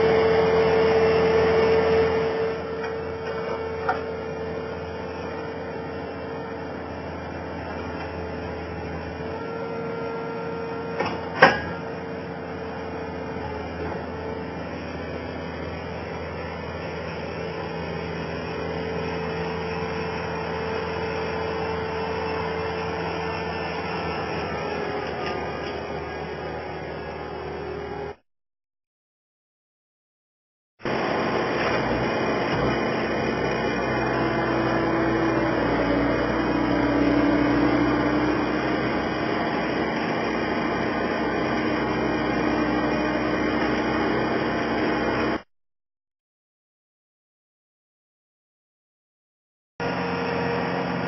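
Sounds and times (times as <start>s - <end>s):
loader engine running: 0.0s - 28.2s, 30.8s - 45.5s, 49.8s - 51.0s.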